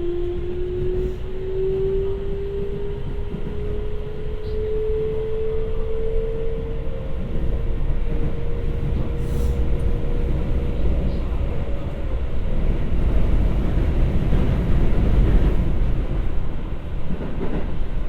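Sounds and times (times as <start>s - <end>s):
train inverter whine: 0.0s - 16.9s.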